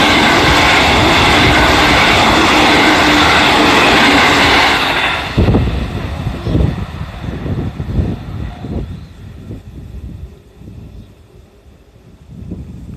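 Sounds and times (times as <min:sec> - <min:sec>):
train passing on rails: 0:00.0 - 0:12.9.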